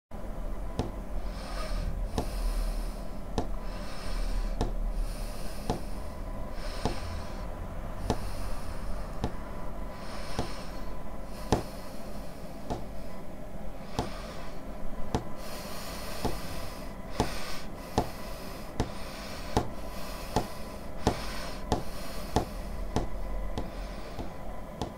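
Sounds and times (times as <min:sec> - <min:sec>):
person breathing: 0:00.8 - 0:24.9.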